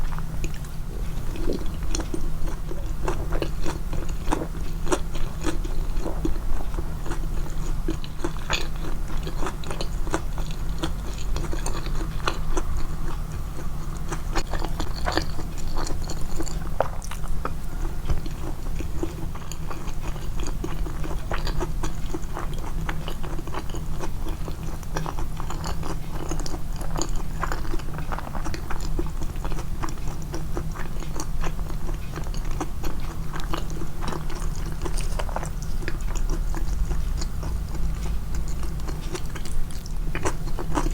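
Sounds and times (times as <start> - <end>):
person chewing food: 0.0 - 40.9
steady low hum: 0.0 - 40.9.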